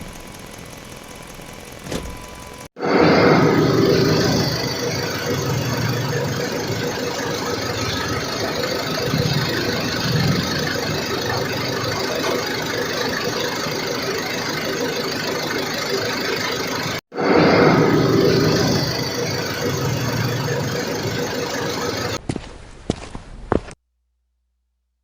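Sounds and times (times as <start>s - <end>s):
small motor whining: 0.0s - 22.2s.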